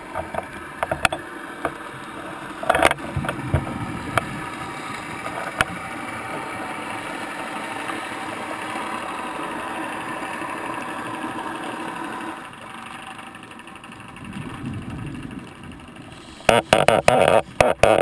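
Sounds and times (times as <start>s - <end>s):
underwater mechanical hum: 0.0s - 18.0s.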